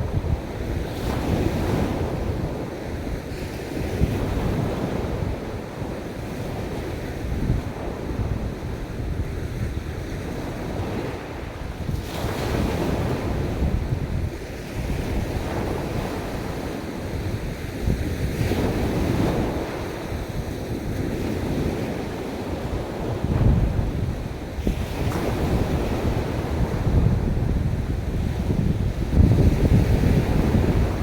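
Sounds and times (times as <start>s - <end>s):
ocean waves breaking: 0.0s - 31.0s
wind rumbling on microphone: 0.0s - 31.0s.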